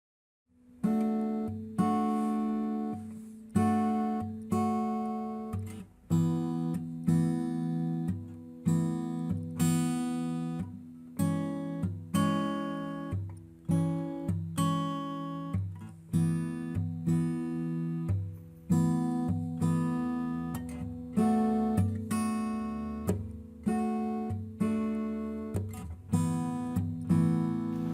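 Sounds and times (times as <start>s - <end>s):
acoustic guitar strumming chords: 0.6s - 27.9s.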